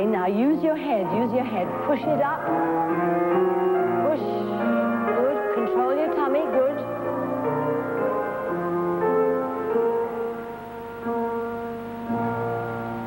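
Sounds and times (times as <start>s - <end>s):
slow instrumental music: 0.0s - 13.0s.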